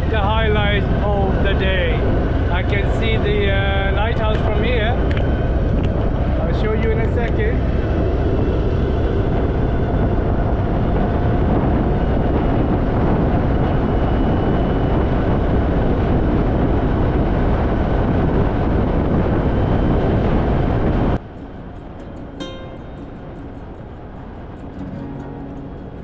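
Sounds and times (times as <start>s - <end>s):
wind rush over microphone: 0.0s - 26.0s.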